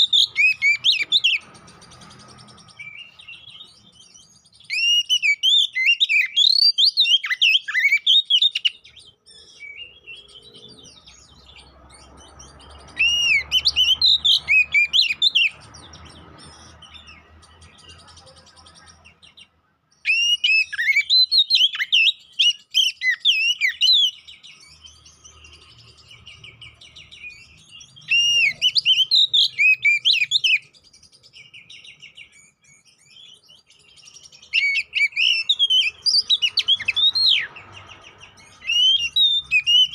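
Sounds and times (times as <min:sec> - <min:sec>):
bird singing whistled phrases: 0:00.0 - 0:15.6, 0:16.4 - 0:39.9
soft bird twittering: 0:00.0 - 0:39.9.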